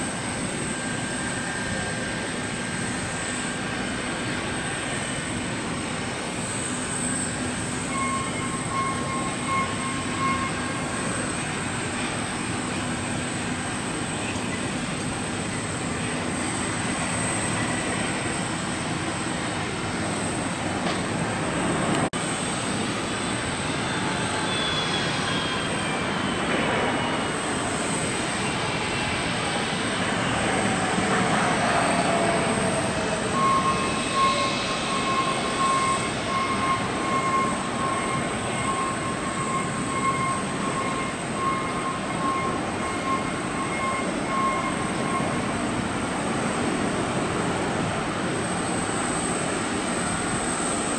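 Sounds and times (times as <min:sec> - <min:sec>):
high engine whine: 0:00.0 - 0:50.9
jet engines rushing: 0:00.0 - 0:50.9.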